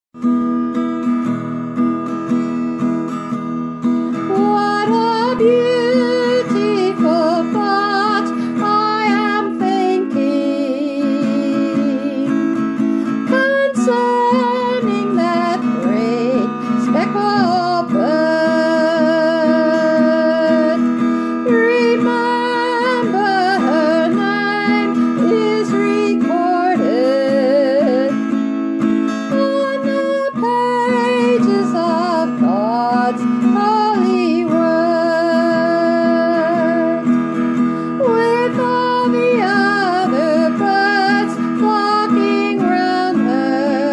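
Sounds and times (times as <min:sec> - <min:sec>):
acoustic guitar strumming: 0:00.2 - 0:43.9
woman singing country song: 0:00.2 - 0:43.9.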